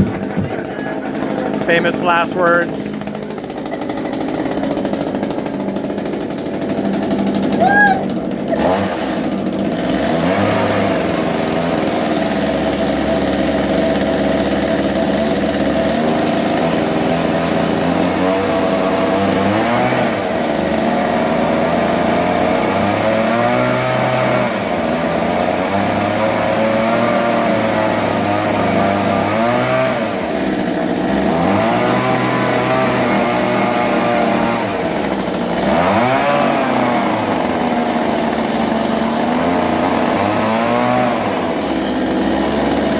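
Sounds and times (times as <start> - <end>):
chainsaw running: 0.0 - 42.9.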